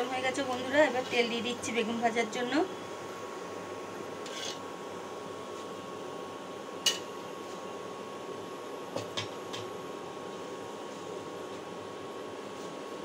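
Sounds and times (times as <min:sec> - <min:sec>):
cooling fan hum and whine: 0:00.0 - 0:13.0.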